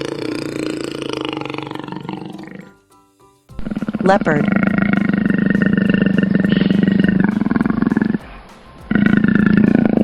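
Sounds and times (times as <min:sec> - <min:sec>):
leopard growling: 0:00.0 - 0:02.8, 0:03.6 - 0:10.0.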